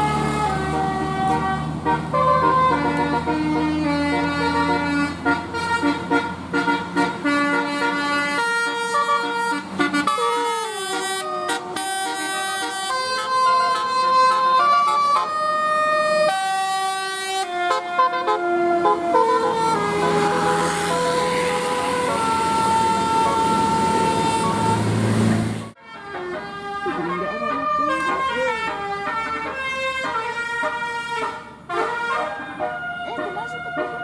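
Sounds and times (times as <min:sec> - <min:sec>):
bus air horn melody: 0:00.0 - 0:34.0.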